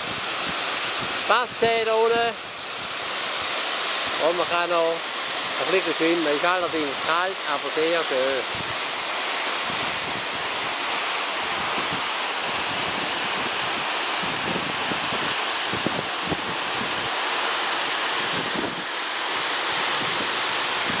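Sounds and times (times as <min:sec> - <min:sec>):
waterfall rushing onto rock: 0:00.0 - 0:21.0.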